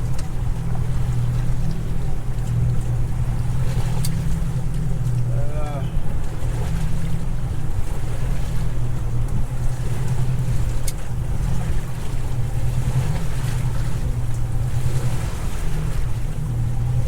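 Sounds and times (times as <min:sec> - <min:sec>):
boat motor rumble: 0:00.0 - 0:17.0
water washing: 0:00.0 - 0:17.0.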